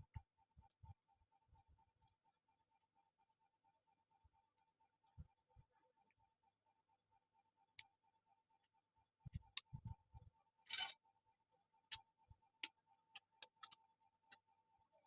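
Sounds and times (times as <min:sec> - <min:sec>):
faint steady ticking: 0:00.0 - 0:15.0.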